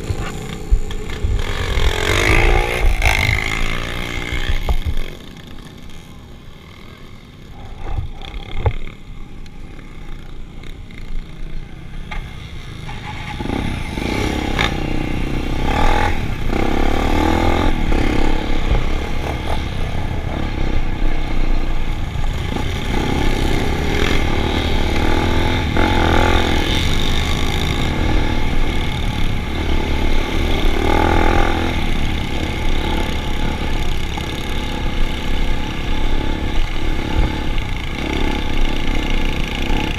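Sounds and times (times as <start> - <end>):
vehicle engines revving: 0.0 - 39.9.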